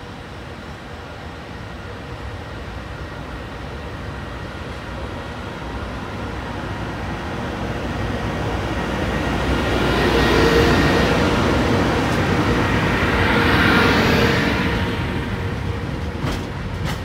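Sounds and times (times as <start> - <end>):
electric locomotive passing: 0.0 - 17.0.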